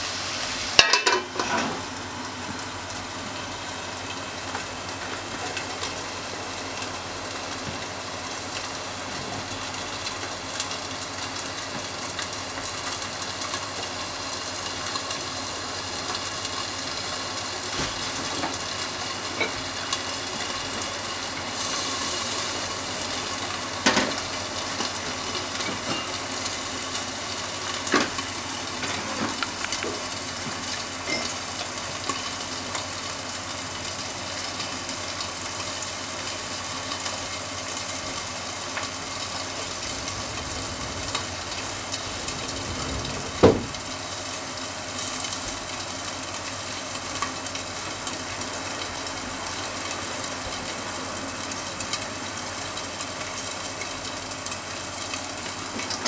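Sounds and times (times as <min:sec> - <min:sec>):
food sizzling in frying pan: 0:00.0 - 0:56.0.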